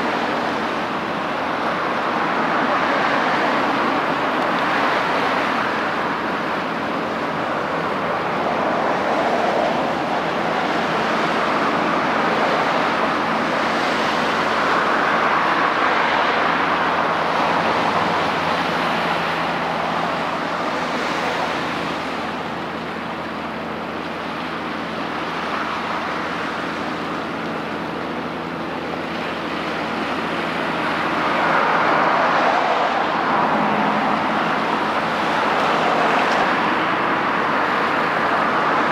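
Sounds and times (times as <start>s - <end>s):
outdoor rushing noise: 7.3s - 38.9s.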